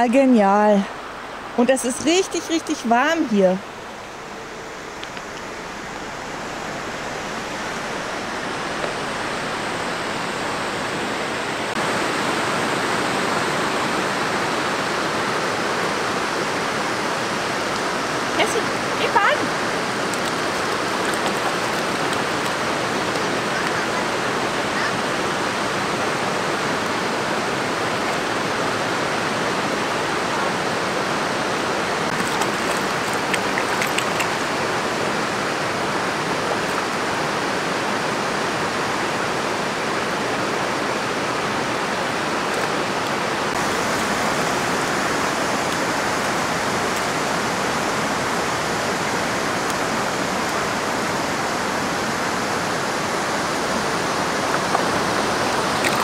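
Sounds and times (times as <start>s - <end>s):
river rushing over stones: 0.9s - 56.0s.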